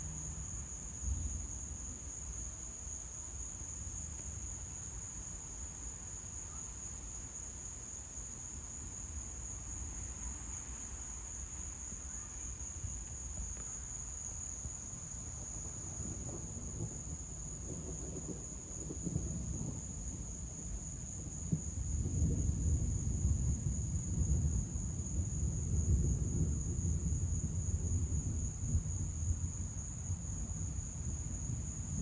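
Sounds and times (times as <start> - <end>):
night insects chorus: 0.0 - 32.0.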